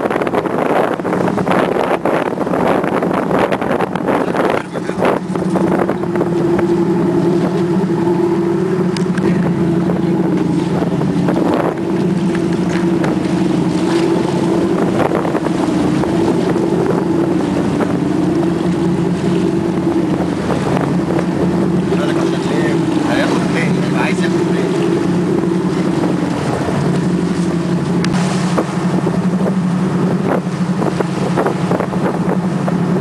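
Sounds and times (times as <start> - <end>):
motorboat engine droning: 0.0 - 33.0.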